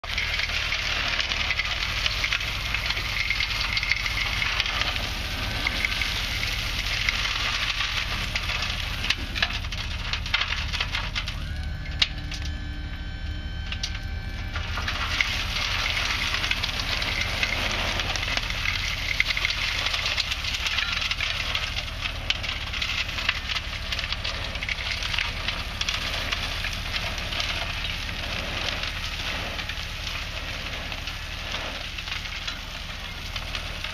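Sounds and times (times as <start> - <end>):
truck engine rumbling: 0.0 - 33.9.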